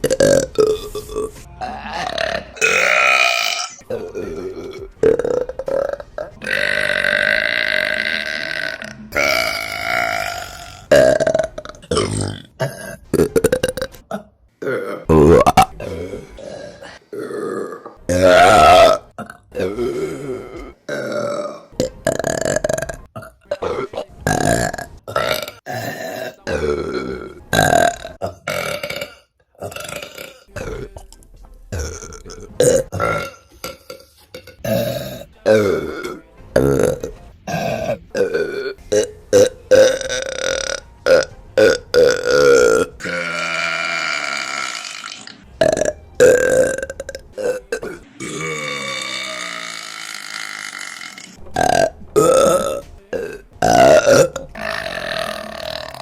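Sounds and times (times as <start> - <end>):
women burping: 0.0 - 31.0, 31.8 - 56.0.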